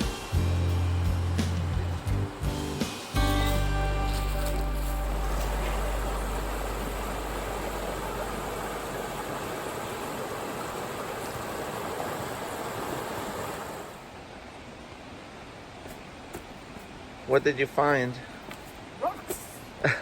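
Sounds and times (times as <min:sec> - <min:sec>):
rushing creek water: 0:00.0 - 0:20.0.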